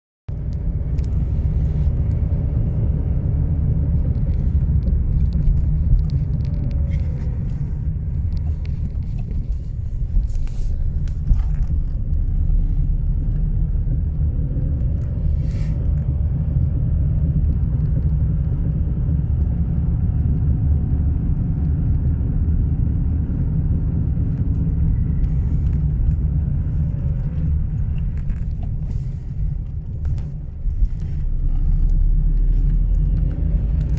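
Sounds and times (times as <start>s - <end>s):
diesel engine running: 0.3s - 33.9s.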